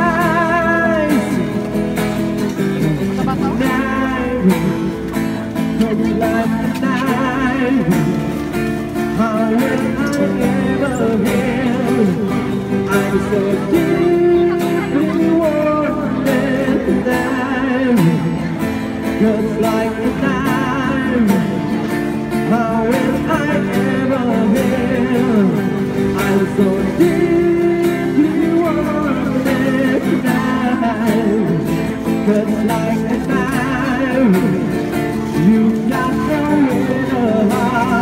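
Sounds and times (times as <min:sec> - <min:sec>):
man singing into microphone: 0:00.0 - 0:01.9, 0:02.6 - 0:38.0
acoustic guitar strumming: 0:00.0 - 0:38.0.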